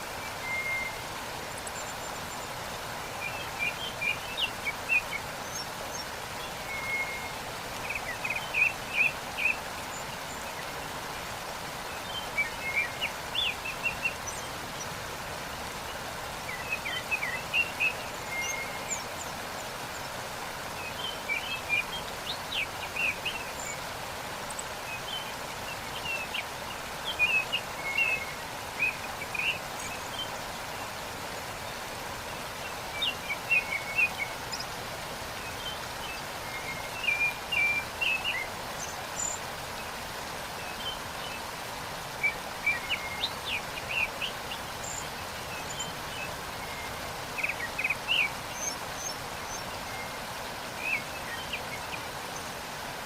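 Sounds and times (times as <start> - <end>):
small birds chirping: 0.0 - 53.0
waterfall rushing: 0.0 - 53.0.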